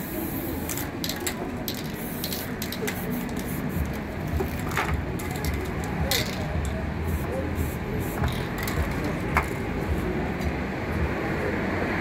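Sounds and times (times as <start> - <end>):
spray paint can hissing: 0.0 - 10.0.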